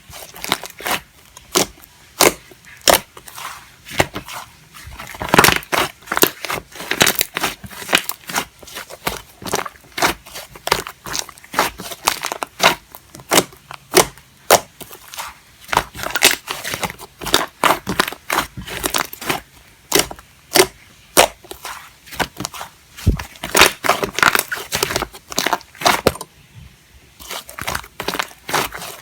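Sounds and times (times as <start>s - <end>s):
slime squished by hand: 0.1s - 26.2s, 27.2s - 29.0s.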